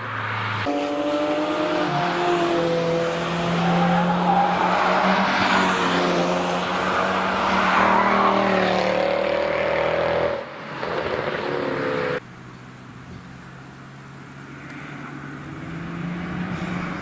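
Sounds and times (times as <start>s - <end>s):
car engine passing by: 0.0s - 12.2s, 14.5s - 17.0s
tyre and road noise: 0.0s - 17.0s.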